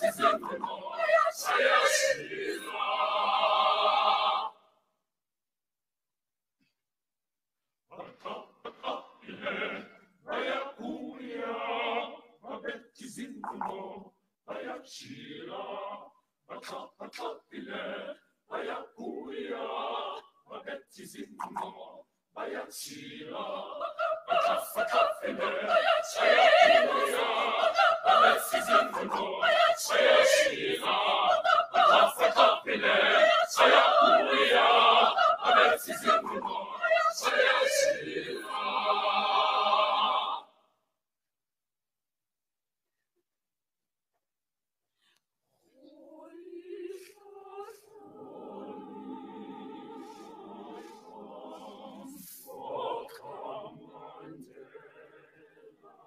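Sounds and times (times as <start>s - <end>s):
children's choir singing: 0.0s - 4.6s, 7.9s - 40.6s, 45.9s - 56.0s.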